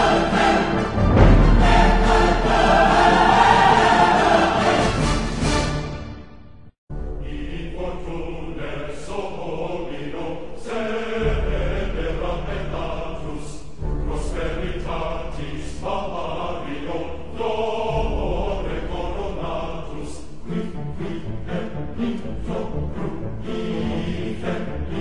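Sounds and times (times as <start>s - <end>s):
choral chanting: 0.0s - 6.3s, 7.2s - 25.0s.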